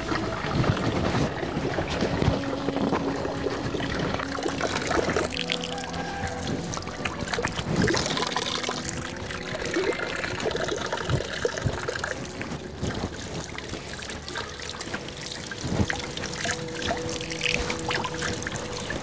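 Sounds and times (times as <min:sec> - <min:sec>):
hands rinsed under water: 0:00.0 - 0:19.0
water trickling from spout: 0:00.0 - 0:19.0.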